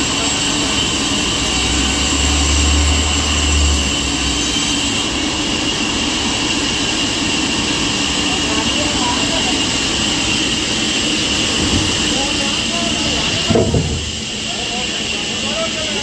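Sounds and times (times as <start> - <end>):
sawmill saw machinery running: 0.0 - 16.0.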